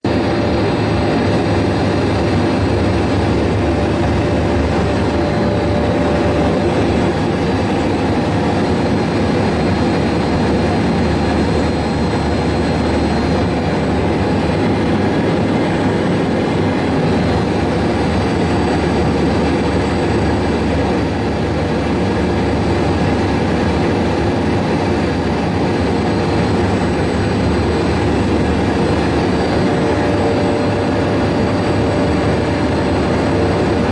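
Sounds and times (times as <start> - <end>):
jet engine rumble: 0.0 - 33.9.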